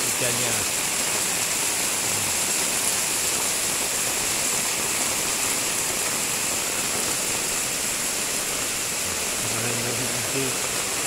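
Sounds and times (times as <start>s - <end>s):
rain on roofs and concrete: 0.0s - 11.0s
water pouring off roof edges: 0.0s - 11.0s.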